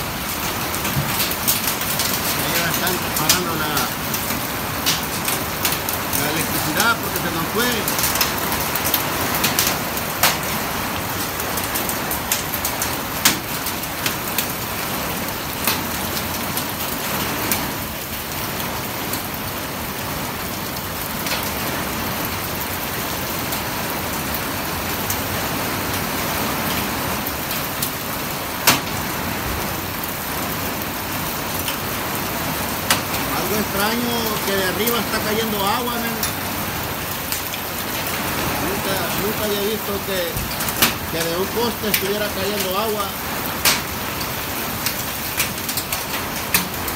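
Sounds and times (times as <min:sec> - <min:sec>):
heavy rain hissing: 0:00.0 - 0:46.9
raindrops tapping a surface: 0:00.0 - 0:46.9.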